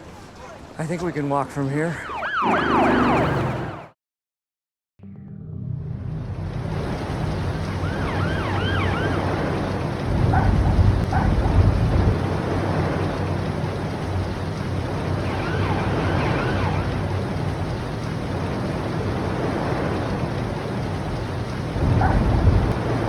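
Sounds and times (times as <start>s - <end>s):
rushing water and rain: 0.0s - 2.0s, 6.4s - 23.0s.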